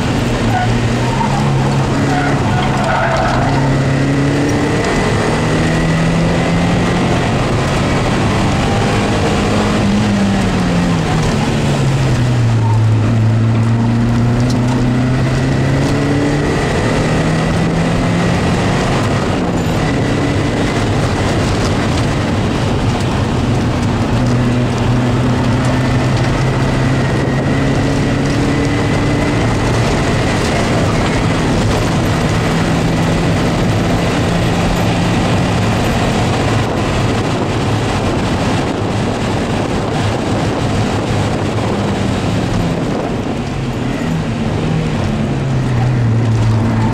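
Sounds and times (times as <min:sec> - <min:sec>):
car engine revving: 0:00.0 - 0:46.9
road and tyre noise: 0:00.0 - 0:46.9.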